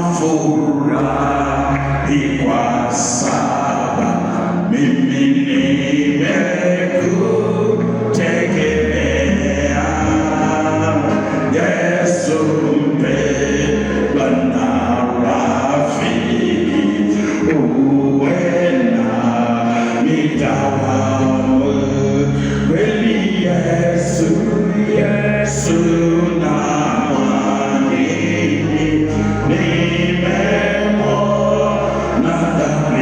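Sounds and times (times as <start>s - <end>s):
choir singing in harmony: 0.0s - 33.0s
sustained bass line: 0.0s - 33.0s.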